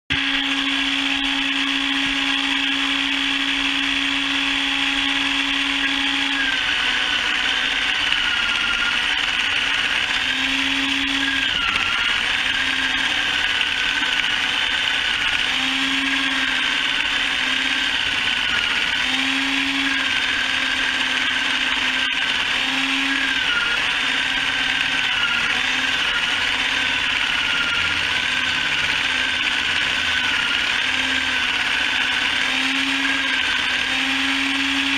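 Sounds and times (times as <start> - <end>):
chicken plucker motor whining: 0.0 - 34.9.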